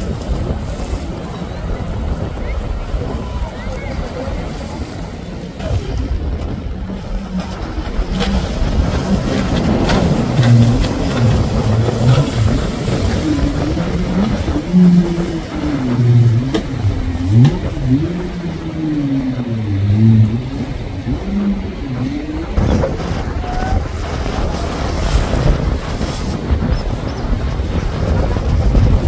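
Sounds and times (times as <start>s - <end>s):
jet ski engine revving: 0.0s - 29.0s
rush of wind and water: 0.0s - 29.0s.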